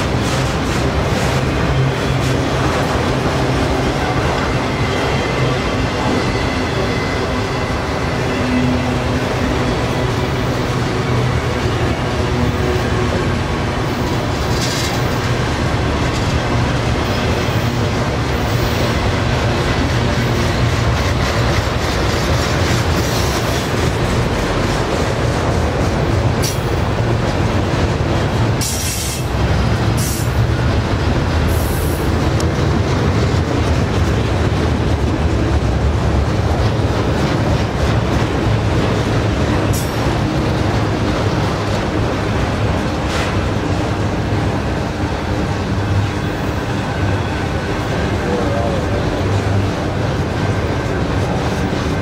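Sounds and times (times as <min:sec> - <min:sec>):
steel wheels running on rails: 0:00.0 - 0:52.0.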